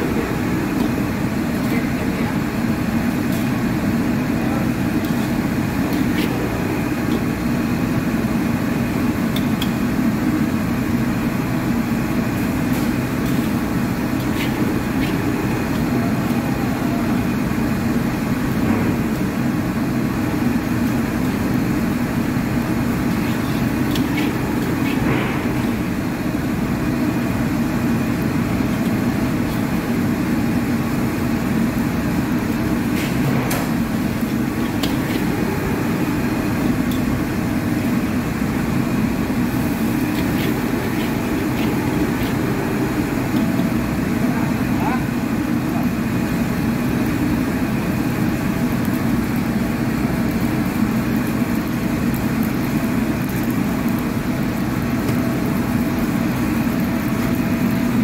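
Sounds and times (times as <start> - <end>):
gas burner rushing: 0.0 - 50.4.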